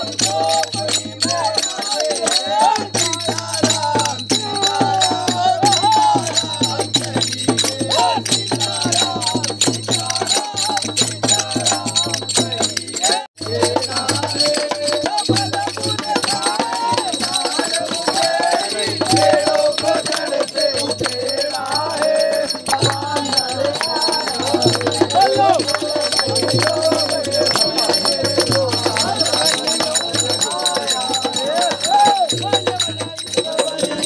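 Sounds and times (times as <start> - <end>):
group singing devotional song: 0.0 - 34.0
jingling hand percussion: 0.0 - 34.0.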